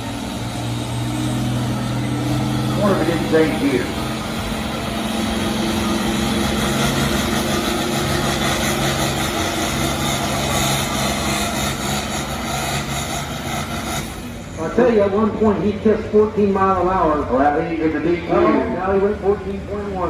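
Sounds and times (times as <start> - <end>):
tractor engine running hard: 0.0 - 20.0.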